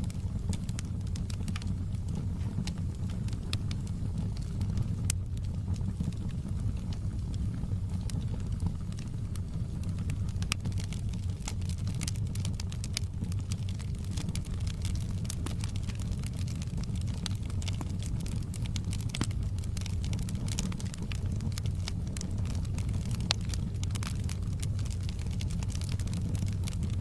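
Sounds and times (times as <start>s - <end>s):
burning logs crackling and popping: 0.0s - 27.0s
fire flames rumbling: 0.0s - 27.0s.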